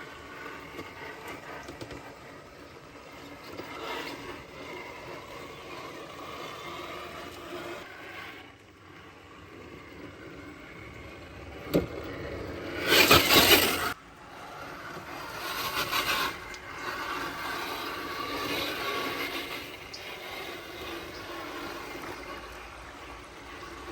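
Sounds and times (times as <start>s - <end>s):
tyres and chassis scraping: 0.0s - 23.9s.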